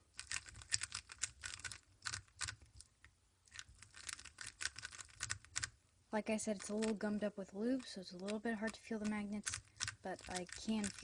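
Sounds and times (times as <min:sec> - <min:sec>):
puzzle cube plastic clicks: 0:00.1 - 0:05.8, 0:06.5 - 0:07.0, 0:07.8 - 0:11.0.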